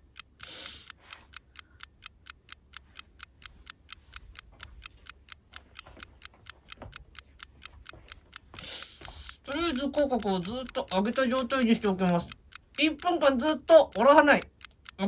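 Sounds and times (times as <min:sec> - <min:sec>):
fast clock ticking: 0:00.0 - 0:15.0.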